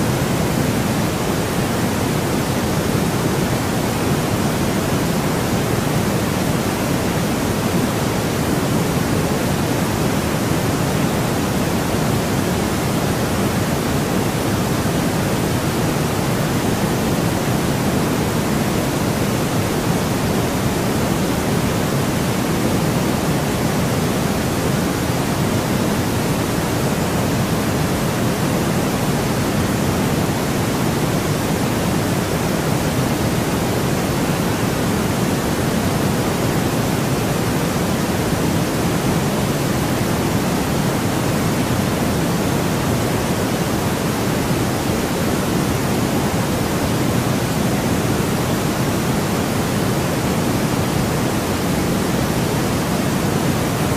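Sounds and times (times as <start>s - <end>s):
white noise: 0.0s - 53.9s.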